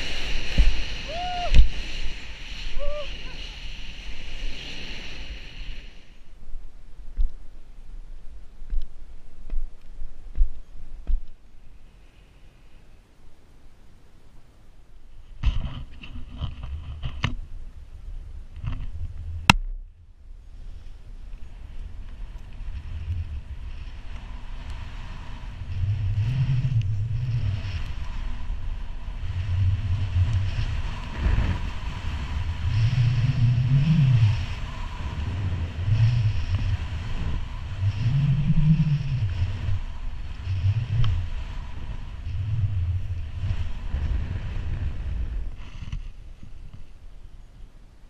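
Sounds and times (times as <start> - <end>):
wind rumbling on microphone: 0.0 - 12.2, 13.1 - 48.0.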